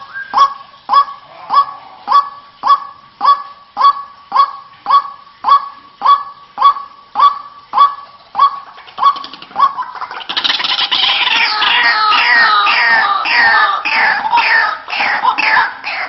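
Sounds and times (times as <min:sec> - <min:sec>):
waterhen calls: 0:00.0 - 0:16.0.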